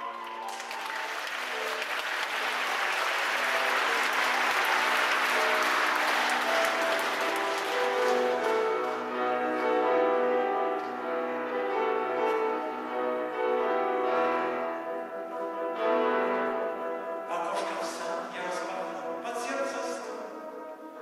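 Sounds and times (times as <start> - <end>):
grand piano chords: 0.0 - 21.0.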